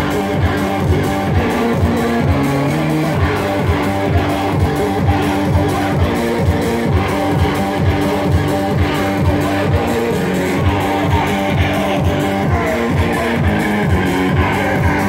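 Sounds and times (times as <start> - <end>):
bass and drum beat: 0.0 - 15.0
guitar: 0.0 - 15.0.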